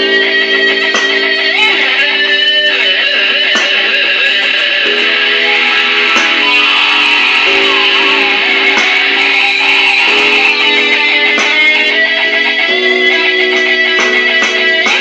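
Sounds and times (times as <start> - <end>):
electric guitar blues chords: 0.0 - 15.0.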